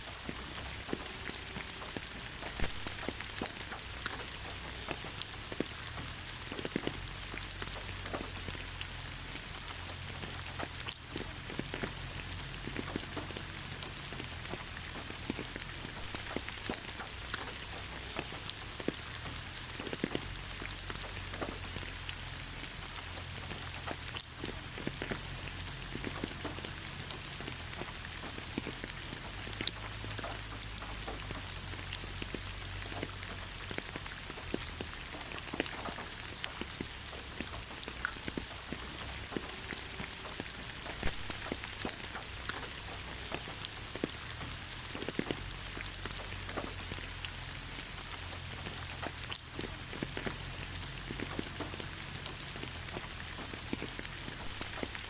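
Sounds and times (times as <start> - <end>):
raindrops ticking on surface: 0.0 - 55.0
steady rain hiss: 0.0 - 55.0.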